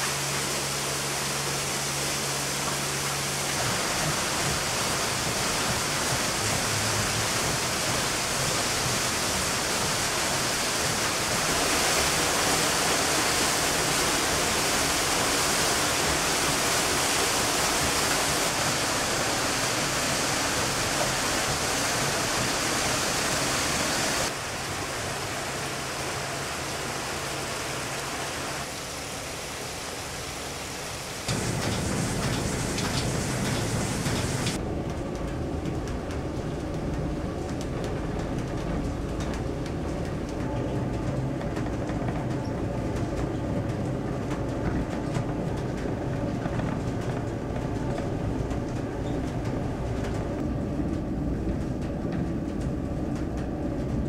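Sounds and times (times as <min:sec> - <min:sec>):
water rushing over mill wheel: 0:00.0 - 0:54.0.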